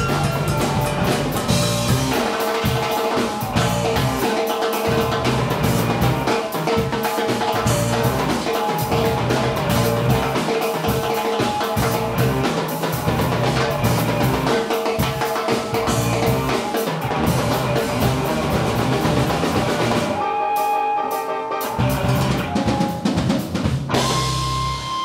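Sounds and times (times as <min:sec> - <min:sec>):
live band playing instrumental: 0:00.0 - 0:25.0.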